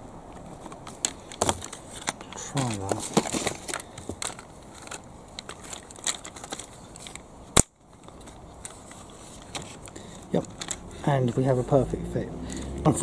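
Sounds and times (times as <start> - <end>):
plastic toy clicking and creaking: 0.6 - 11.8.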